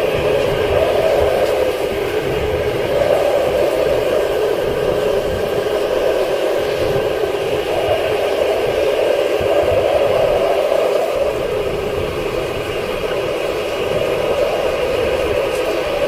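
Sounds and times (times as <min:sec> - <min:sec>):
strong storm wind rushing: 0:00.0 - 0:16.0.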